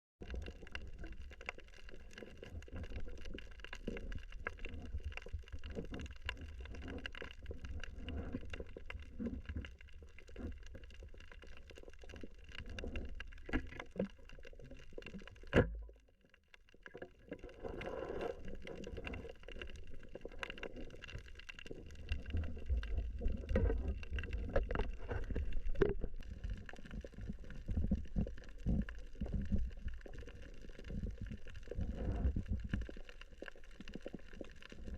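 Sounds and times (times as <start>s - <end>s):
crackle of small clicks: 0.2s - 34.9s
low underwater rumble: 0.2s - 34.9s.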